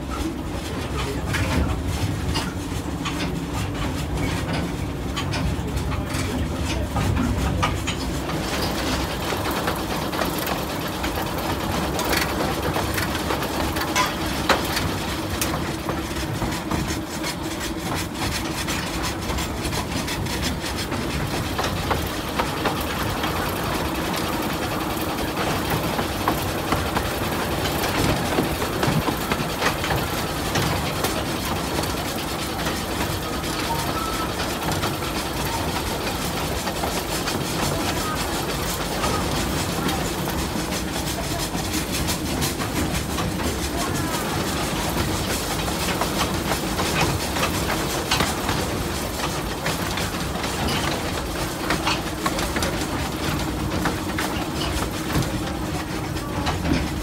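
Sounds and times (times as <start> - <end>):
railway carriage rattling on track: 0.0 - 57.0
wheel clicks and knocks: 1.3 - 57.0.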